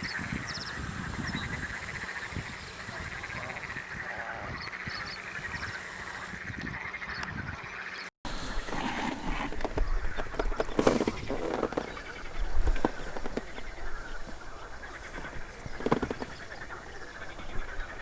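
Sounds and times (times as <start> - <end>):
chorus of animal calls: 0.0 - 8.1, 8.7 - 18.0.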